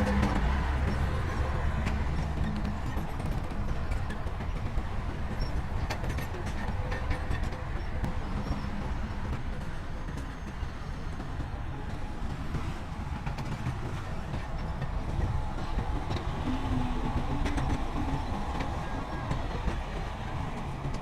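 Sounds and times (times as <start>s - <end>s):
diesel machinery rumbling: 0.0s - 21.0s.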